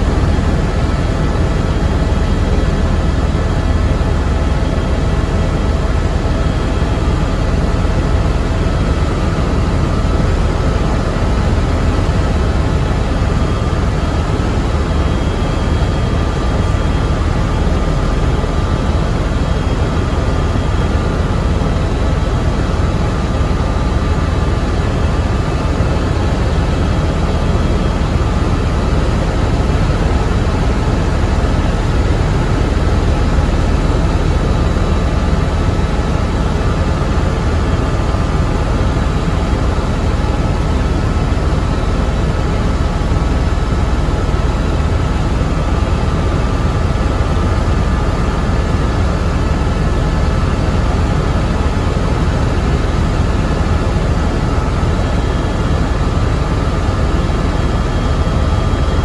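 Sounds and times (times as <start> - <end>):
helicopter engine and rotor rumble: 0.0 - 59.0.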